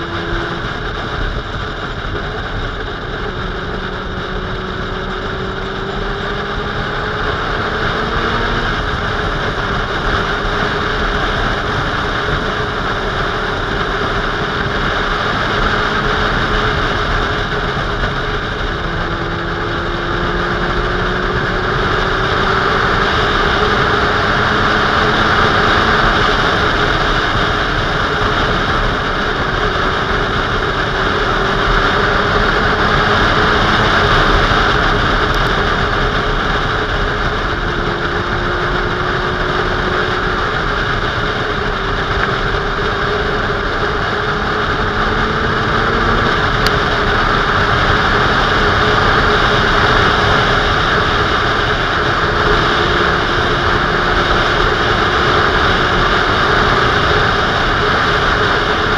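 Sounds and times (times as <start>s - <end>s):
motorcycle engine hum: 0.0s - 58.9s
wind rush over microphone: 0.0s - 58.9s.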